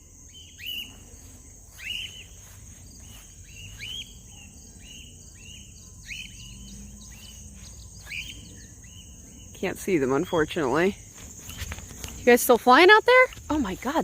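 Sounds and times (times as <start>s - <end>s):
crickets chirring: 0.0s - 14.0s
distant bird calls: 0.0s - 14.0s.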